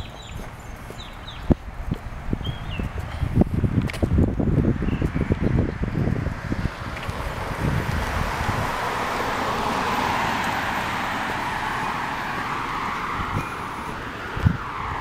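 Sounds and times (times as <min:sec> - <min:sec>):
car passing on asphalt: 0:00.0 - 0:15.0.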